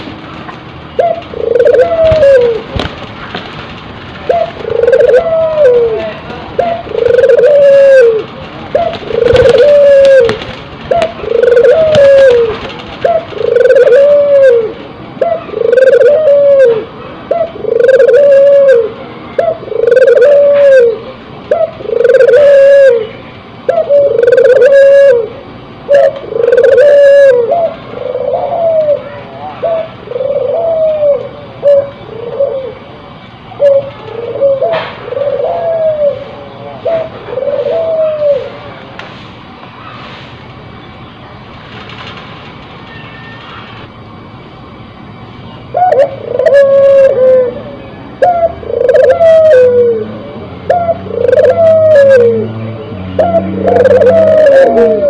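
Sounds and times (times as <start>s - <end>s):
dove cooing: 0.0s - 3.0s, 4.2s - 33.0s, 33.6s - 38.8s, 45.7s - 55.0s.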